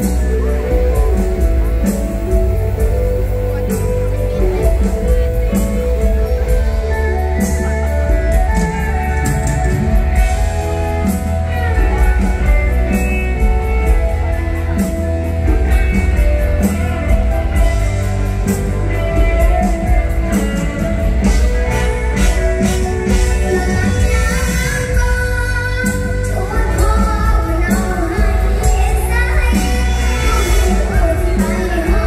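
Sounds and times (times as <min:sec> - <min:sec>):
plucked-string lead melody: 0:00.0 - 0:32.0.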